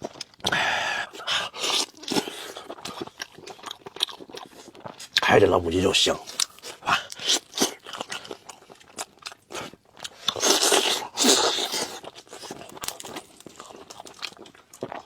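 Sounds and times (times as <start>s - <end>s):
person chewing: 0.0s - 5.3s, 6.2s - 15.0s.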